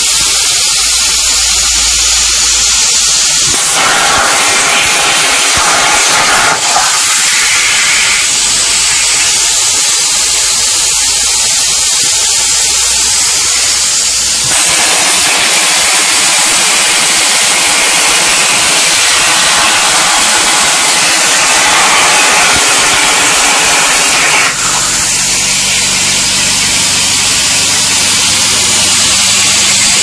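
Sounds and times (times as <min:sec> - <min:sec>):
plasma cutter hissing: 0:00.0 - 0:30.0.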